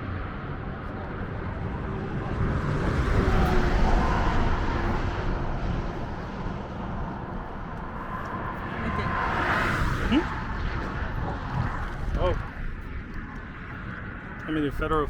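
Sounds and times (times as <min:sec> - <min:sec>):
road traffic rumble: 0:00.0 - 0:15.0
wind on microphone: 0:00.0 - 0:15.0.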